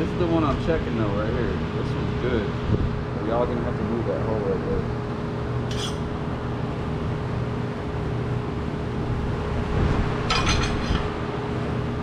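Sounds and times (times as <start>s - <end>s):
low mechanical hum of machinery: 0.0s - 12.0s.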